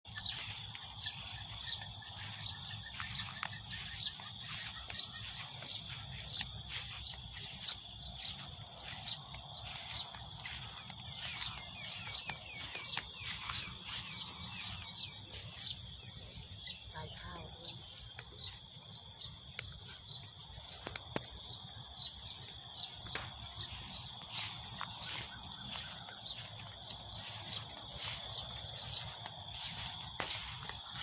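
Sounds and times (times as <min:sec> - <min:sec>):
insects trilling: 0:00.1 - 0:31.0.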